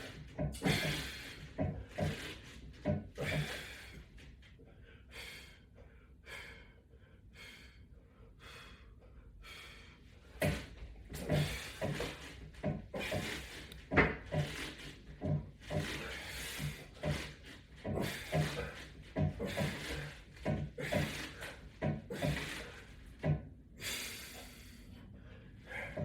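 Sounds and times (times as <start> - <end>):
man breathing hard: 0.1 - 15.0, 15.7 - 23.1, 23.8 - 26.0.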